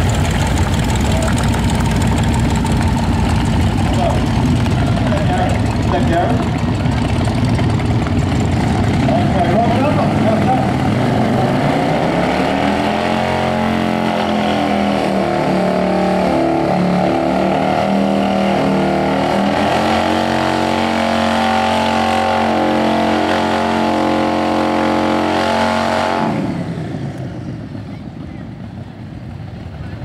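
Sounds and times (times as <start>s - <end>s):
motorcycle engine revving high: 0.0s - 28.9s.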